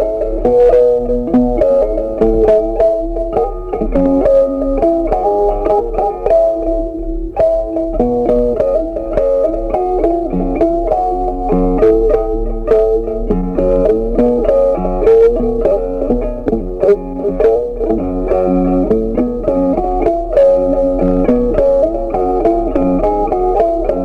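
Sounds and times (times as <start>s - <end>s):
plucked guitar-like music: 0.0s - 24.0s.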